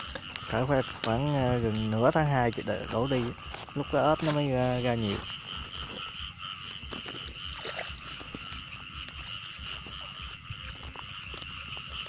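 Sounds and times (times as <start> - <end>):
frogs trilling chorus: 0.0 - 12.0.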